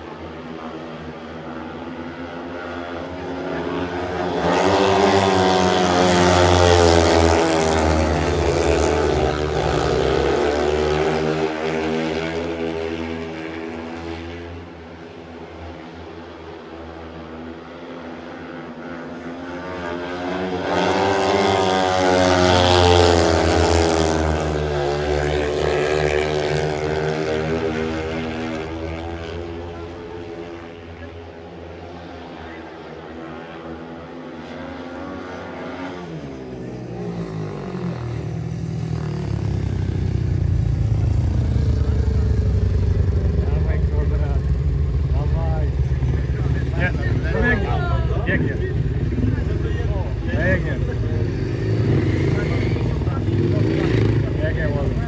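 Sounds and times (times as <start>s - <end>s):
motorcycles racing: 0.0s - 55.0s.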